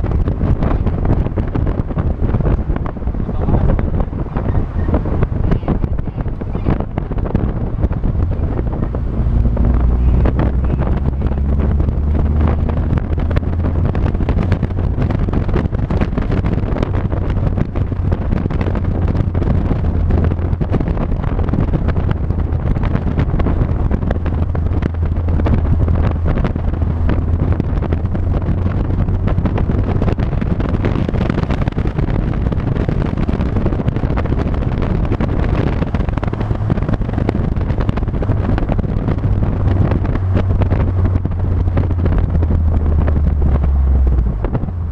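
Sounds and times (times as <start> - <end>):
vehicle engine and road noise: 0.0 - 44.9
wind buffeting on microphone: 0.0 - 44.9.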